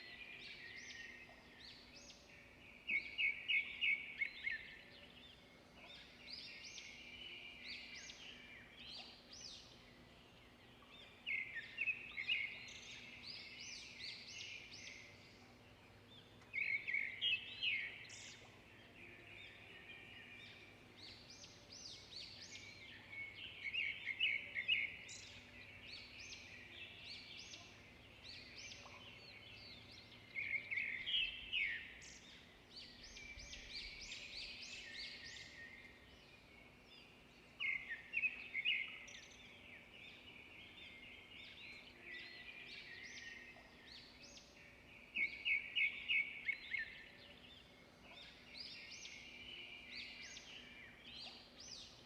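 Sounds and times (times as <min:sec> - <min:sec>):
songbirds chirping and singing: 0:00.0 - 0:52.0.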